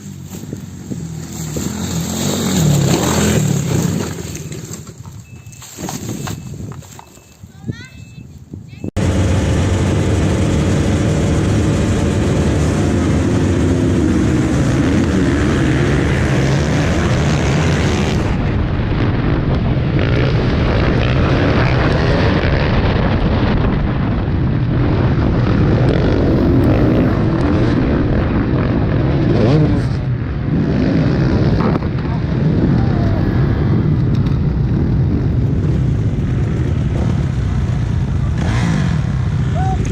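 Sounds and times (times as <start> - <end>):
off-road vehicle engine running: 0.0 - 5.6, 8.9 - 39.9.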